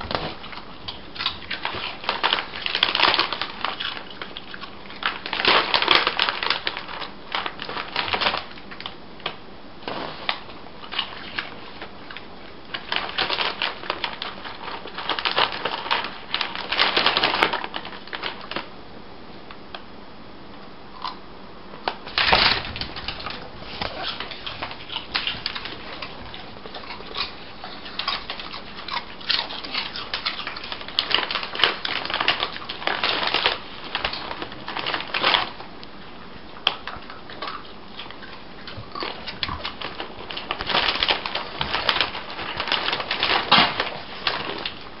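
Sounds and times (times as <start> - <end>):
plastic snack bag crinkling: 0.0 - 18.7, 21.9 - 45.0.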